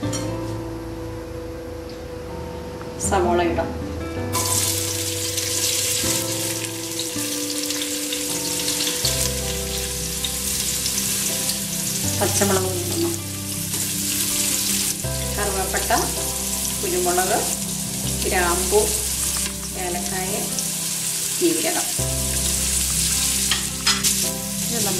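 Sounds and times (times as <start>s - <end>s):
onions sizzling in hot oil: 4.3s - 24.9s.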